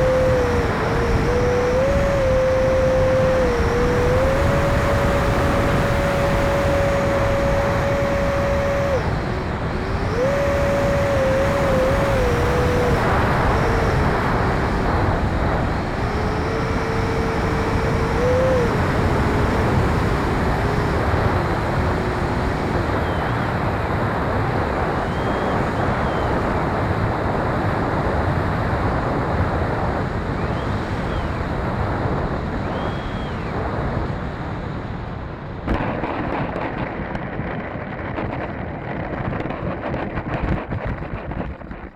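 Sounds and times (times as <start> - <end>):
electric ducted fan whining: 0.0 - 41.9.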